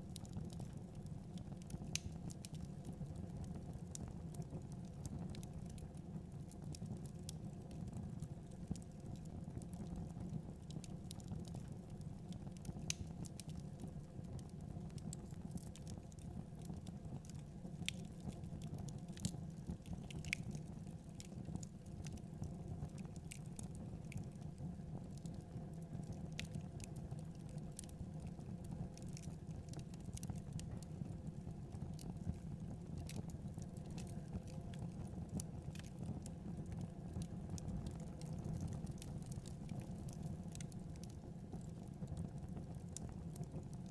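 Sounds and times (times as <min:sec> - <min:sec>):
fire crackling and popping: 0:00.0 - 0:43.9
low rumble of flames: 0:00.0 - 0:43.9.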